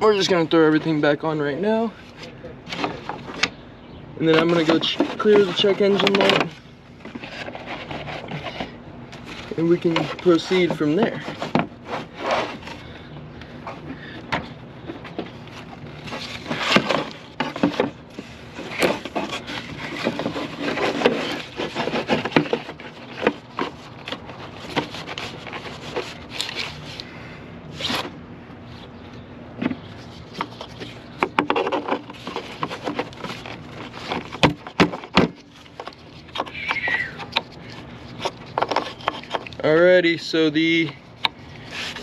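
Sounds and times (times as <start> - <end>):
hand tools clicking and scraping: 4.2 - 28.1, 29.6 - 42.0.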